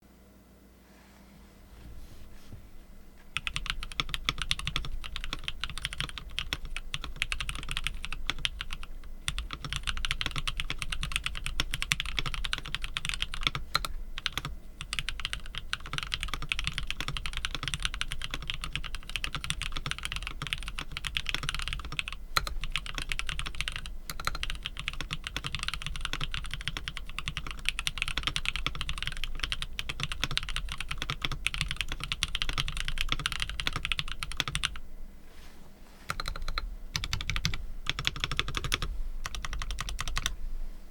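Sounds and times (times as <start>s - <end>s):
fast mechanical keyboard typing: 3.4s - 34.8s, 36.1s - 40.4s.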